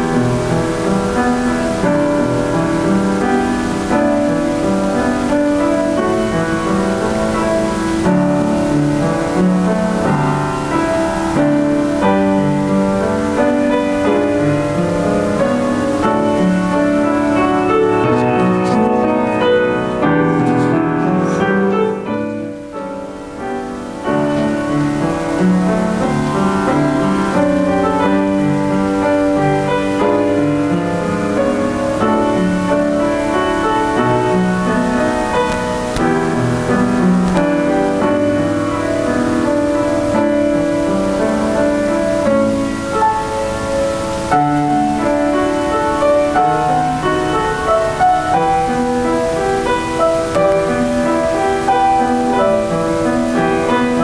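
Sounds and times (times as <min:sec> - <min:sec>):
slow piano chords: 0:00.0 - 0:54.0.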